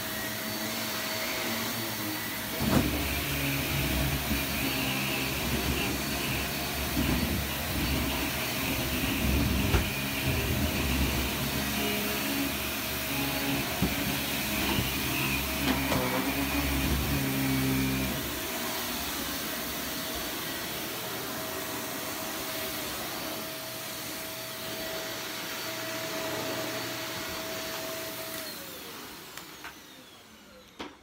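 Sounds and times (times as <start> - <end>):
vacuum cleaner whine: 0.0 - 31.0.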